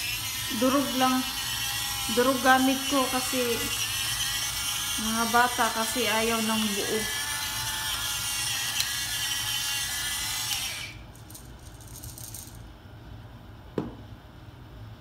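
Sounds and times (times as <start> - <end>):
electric pepper mill whirring: 0.0 - 12.6.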